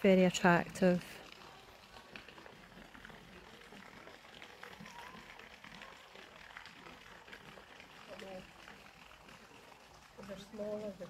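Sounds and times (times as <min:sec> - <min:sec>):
faint garden ambience: 0:00.0 - 0:11.0.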